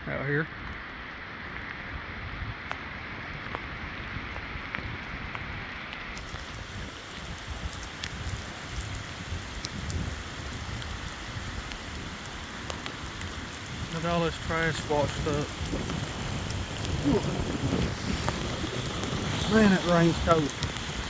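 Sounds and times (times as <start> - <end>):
heavy rain pouring: 0.0 - 21.0
sharp raindrop hits: 0.0 - 21.0.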